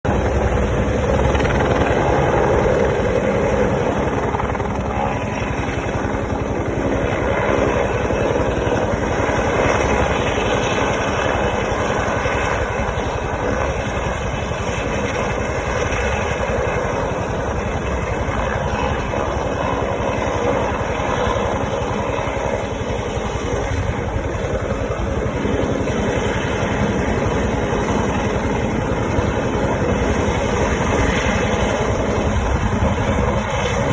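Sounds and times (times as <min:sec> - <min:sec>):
helicopter rotor and turbine: 0:00.0 - 0:33.9.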